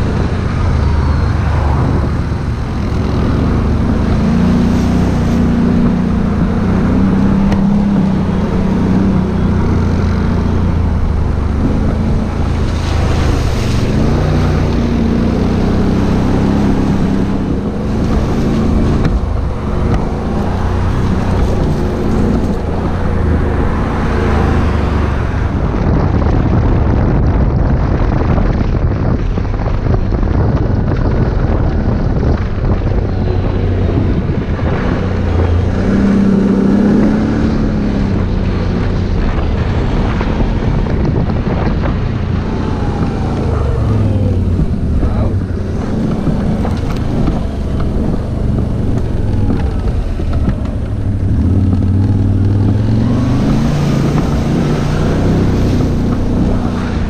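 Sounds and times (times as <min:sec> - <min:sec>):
quad bike engine revving: 0:00.0 - 0:25.5, 0:32.2 - 0:57.0
wind noise on microphone: 0:00.0 - 0:57.0.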